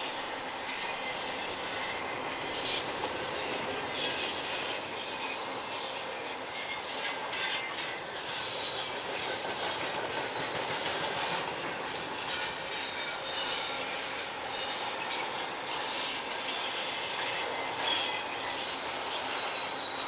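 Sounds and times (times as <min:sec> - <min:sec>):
rumble of rolling train cars: 0:00.0 - 0:20.0
train wheels squealing: 0:00.0 - 0:20.0.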